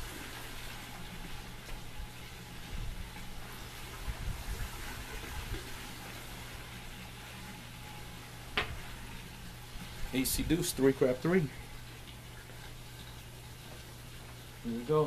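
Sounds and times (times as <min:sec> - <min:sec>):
low steady hum: 0:00.0 - 0:15.0
water fountain trickling: 0:00.0 - 0:15.0.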